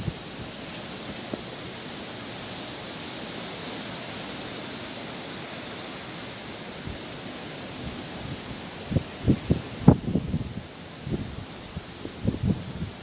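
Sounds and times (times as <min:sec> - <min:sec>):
airy outdoor hiss: 0:00.0 - 0:13.0.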